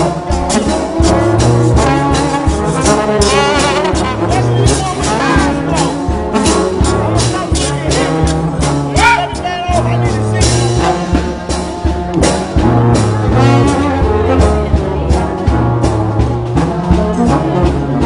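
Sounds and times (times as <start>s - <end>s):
music with steady beat and brass: 0.0s - 18.0s.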